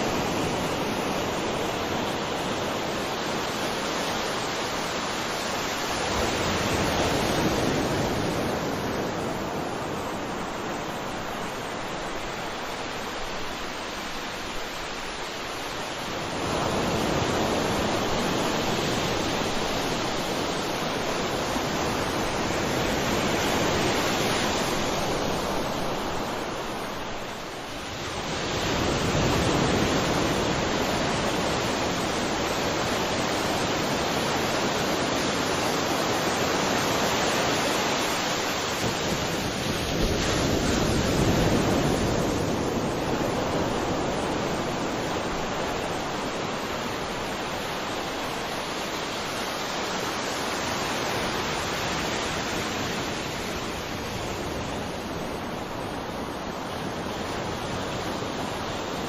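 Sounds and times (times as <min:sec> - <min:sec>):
sea waves washing onto shore: 0:00.0 - 0:59.0.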